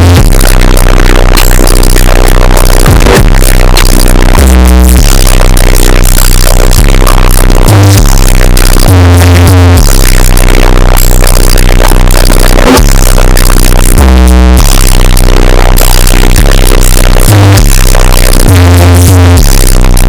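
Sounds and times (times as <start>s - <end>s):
distorted electronic music: 0.0s - 20.0s
heavy bass notes: 0.0s - 20.0s.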